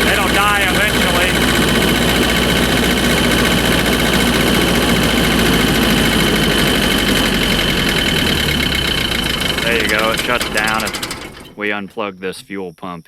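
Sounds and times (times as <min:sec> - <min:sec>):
diesel generator engine running: 0:00.0 - 0:11.9.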